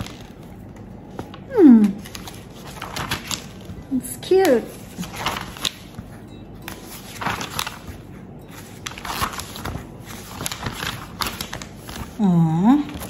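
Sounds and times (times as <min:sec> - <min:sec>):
calendar pages rustling: 0:00.0 - 0:13.0.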